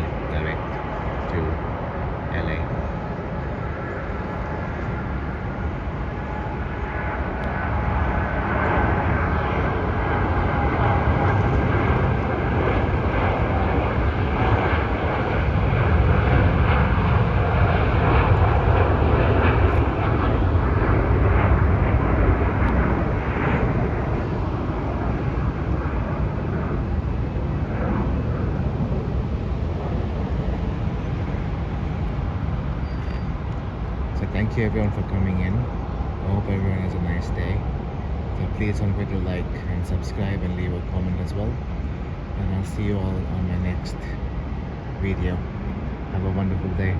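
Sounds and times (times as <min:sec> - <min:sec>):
jet airliner taking off: 0:00.0 - 0:46.9.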